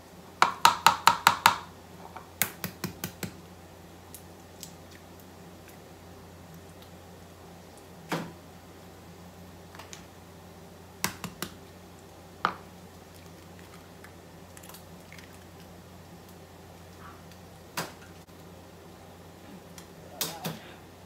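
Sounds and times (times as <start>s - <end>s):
steady low hum: 3.4s - 21.0s.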